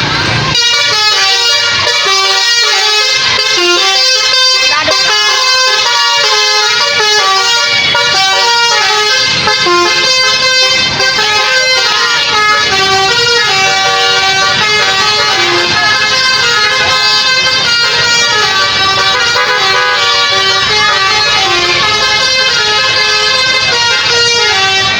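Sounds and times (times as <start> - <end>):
bus air horns playing a melody: 0.0 - 24.9.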